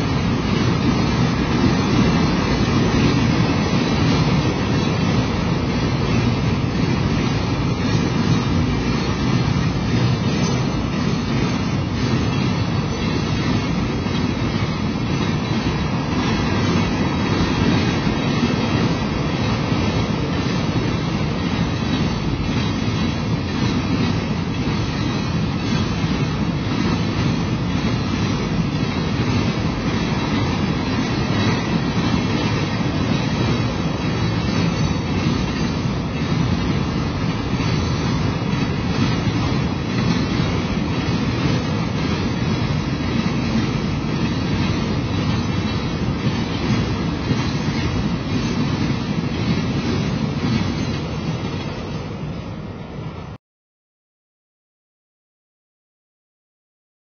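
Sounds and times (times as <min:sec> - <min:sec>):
train wheels running on rails: 0:00.0 - 0:53.4.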